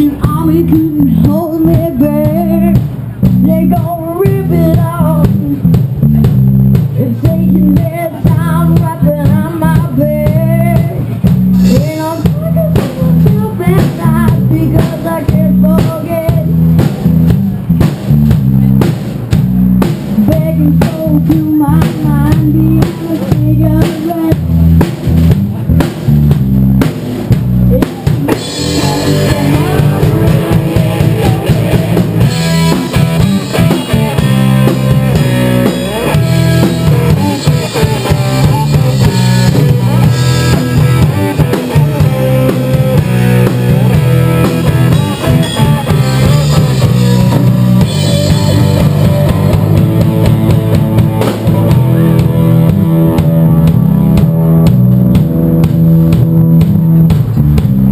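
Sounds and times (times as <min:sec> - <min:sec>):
rock band playing instrumental: 0:00.0 - 0:57.9.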